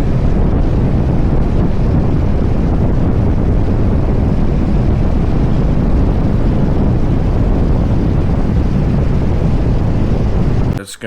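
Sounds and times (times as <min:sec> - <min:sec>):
motorcycle engine running: 0:00.0 - 0:10.8
wind rushing over microphone: 0:00.0 - 0:10.8.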